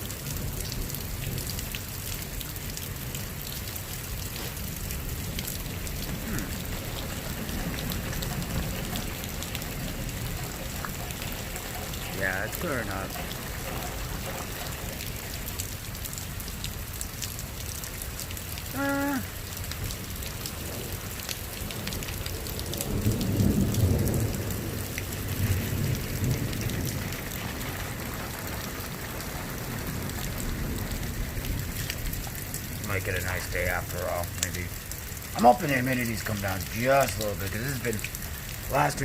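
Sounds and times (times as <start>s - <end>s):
steady rain falling: 0.0s - 39.0s
low thunder rumble: 0.1s - 16.9s, 19.9s - 39.0s.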